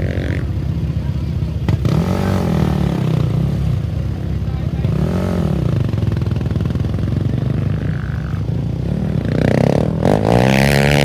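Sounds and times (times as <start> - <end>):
race vehicle engines revving: 0.0 - 11.0.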